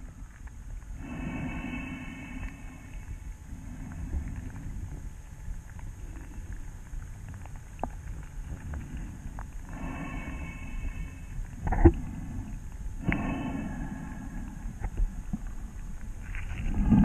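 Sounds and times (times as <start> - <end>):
low water rumble: 0.0 - 17.0.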